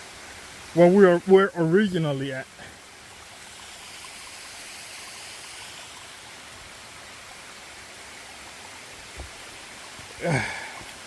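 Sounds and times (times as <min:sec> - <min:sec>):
fast-flowing stream water: 0:00.0 - 0:11.0.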